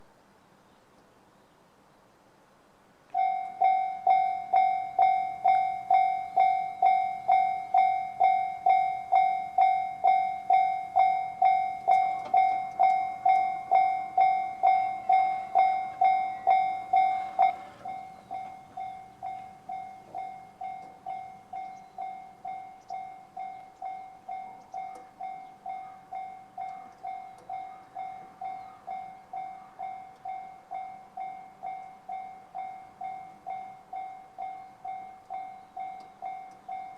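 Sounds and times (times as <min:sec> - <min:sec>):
level crossing bell ringing: 0:03.2 - 0:36.9.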